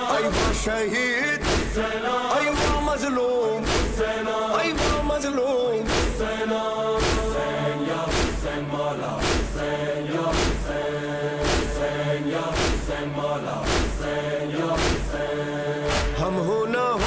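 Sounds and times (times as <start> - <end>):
person chanting a lament: 0.0 - 17.0
loud beat: 0.2 - 0.8, 1.4 - 8.6, 9.2 - 10.8, 11.4 - 13.0, 13.6 - 16.4.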